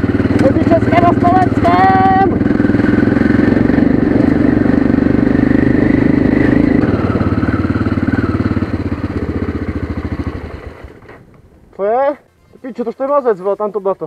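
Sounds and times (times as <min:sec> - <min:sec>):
motorcycle engine under throttle: 0:00.0 - 0:11.3.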